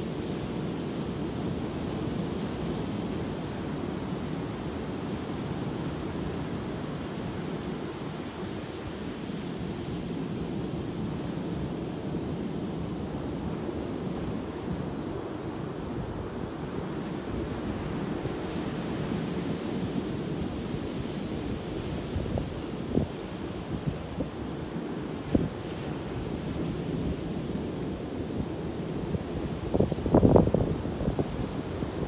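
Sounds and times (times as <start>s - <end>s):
wind on microphone: 0.0s - 32.0s.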